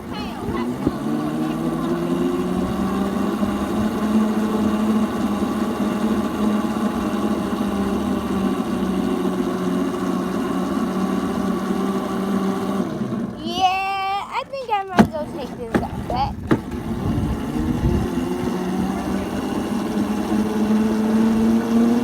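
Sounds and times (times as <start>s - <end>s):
small electric motor humming: 0.0s - 22.0s.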